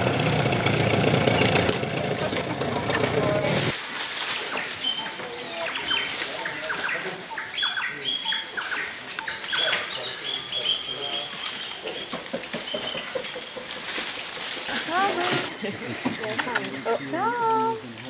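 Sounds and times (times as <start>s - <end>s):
monkeys chirping and peeping: 1.3s - 17.8s.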